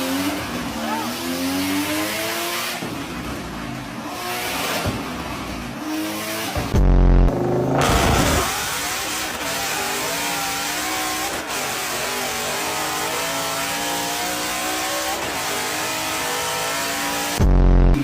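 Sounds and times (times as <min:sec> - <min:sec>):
car engine and exhaust under load: 0:00.0 - 0:18.0.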